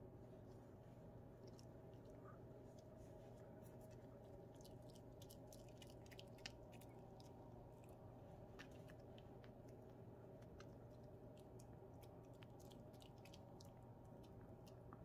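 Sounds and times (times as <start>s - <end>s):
steady low hum: 0.0s - 15.0s
puppy crunching a treat: 1.3s - 15.0s.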